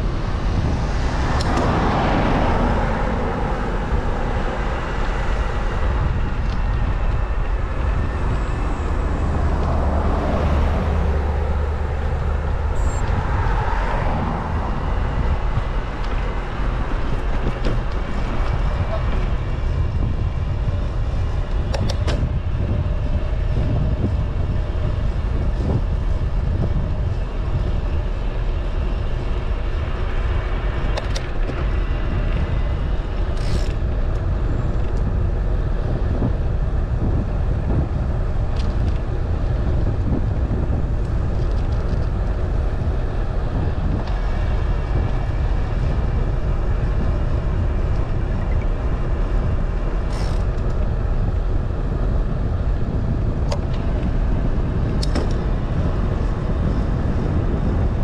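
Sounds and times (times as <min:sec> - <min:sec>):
vehicle road and engine rumble: 0:00.0 - 0:58.0.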